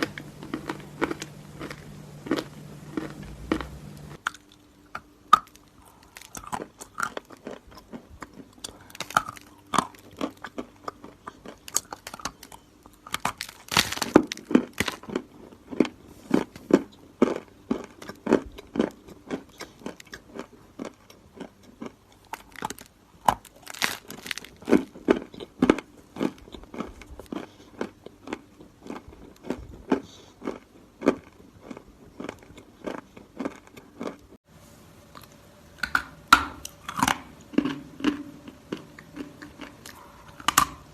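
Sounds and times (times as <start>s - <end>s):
person chewing crunchy chalk: 0.0s - 34.3s, 36.6s - 40.9s.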